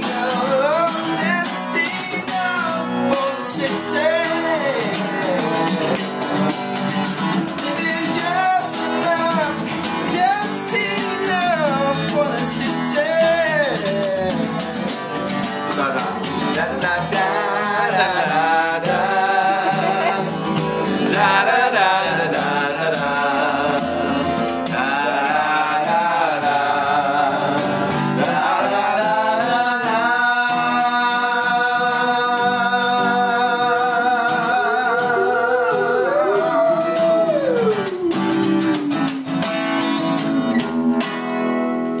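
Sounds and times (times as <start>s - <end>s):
men singing wordless vocals: 0.0s - 39.0s
strummed acoustic guitar: 0.0s - 42.0s.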